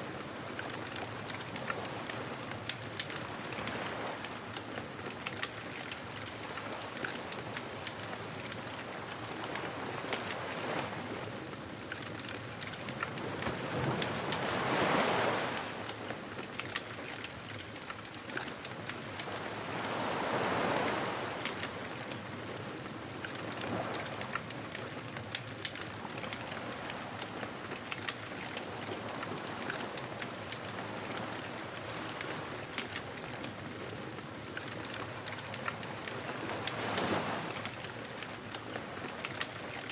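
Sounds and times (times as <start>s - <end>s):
waves washing on shore: 0.0s - 39.9s
bonfire crackling and popping: 0.2s - 39.9s.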